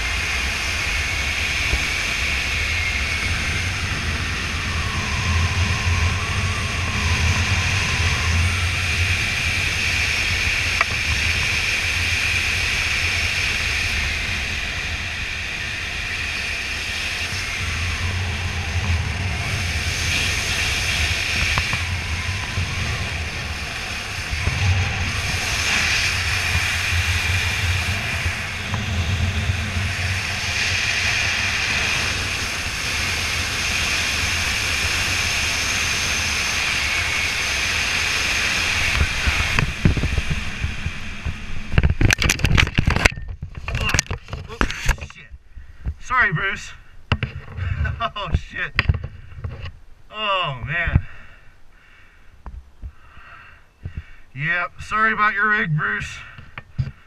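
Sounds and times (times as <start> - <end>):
wind rushing over microphone: 0.0 - 50.0.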